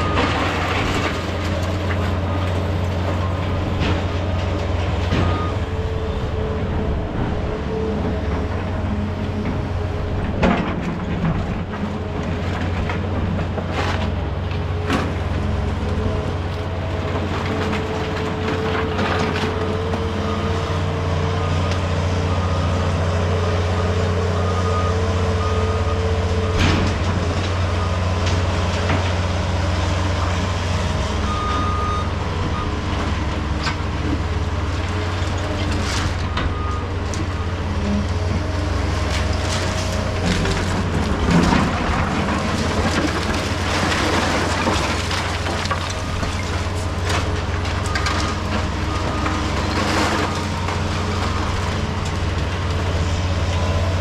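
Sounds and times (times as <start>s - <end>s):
broken concrete crunching and clanking: 0.0s - 21.9s, 25.7s - 54.0s
heavy diesel machinery running: 0.0s - 54.0s.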